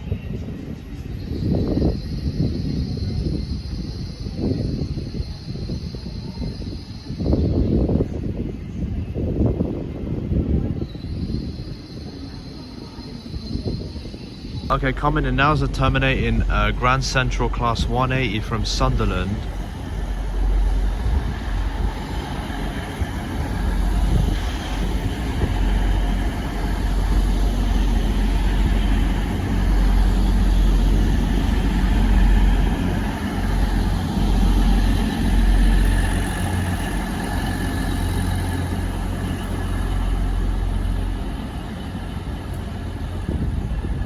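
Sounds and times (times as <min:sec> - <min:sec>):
diesel train engine rumbling: 0:00.0 - 0:44.0.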